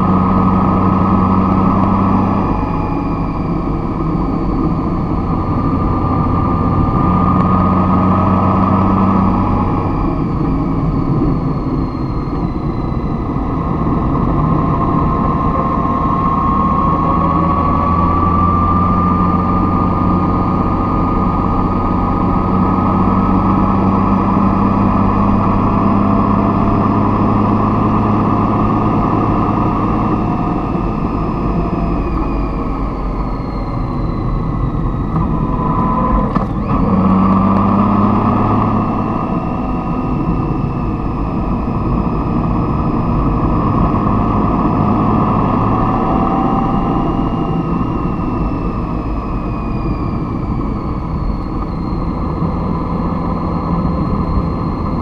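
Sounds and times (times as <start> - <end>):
faint rising tone: 0.0 - 55.0
vehicle engine humming: 0.0 - 55.0.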